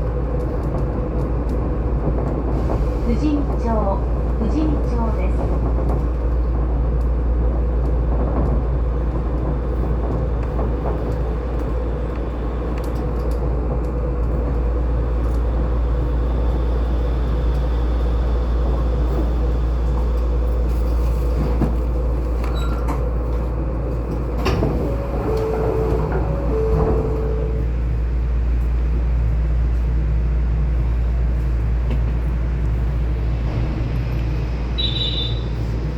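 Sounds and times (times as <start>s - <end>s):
monorail car running rumble: 0.0s - 35.9s.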